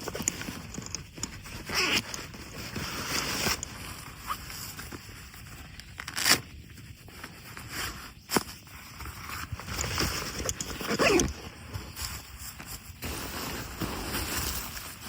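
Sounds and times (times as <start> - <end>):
camp gear rustling and scraping: 0.0 - 15.0.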